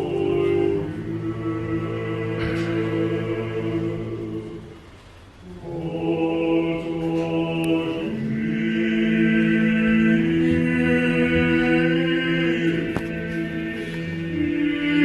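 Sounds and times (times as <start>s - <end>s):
choir chanting: 0.0s - 4.8s, 5.4s - 15.0s.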